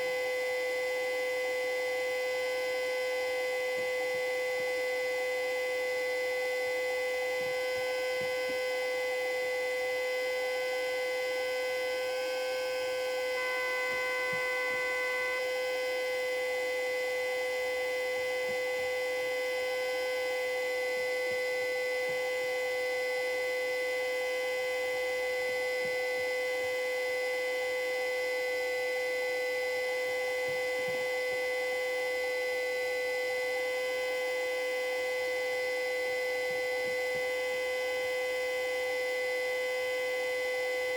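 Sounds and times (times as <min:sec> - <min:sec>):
siren steady tone: 0:00.1 - 0:40.9.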